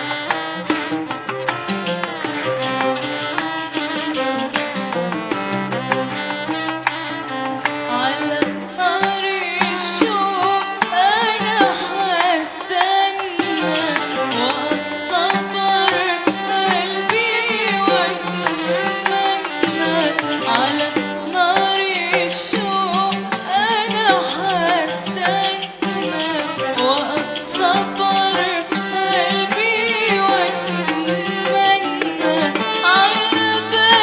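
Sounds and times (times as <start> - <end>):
hand percussion: 0.0 - 34.0
ornamented song melody: 0.0 - 34.0.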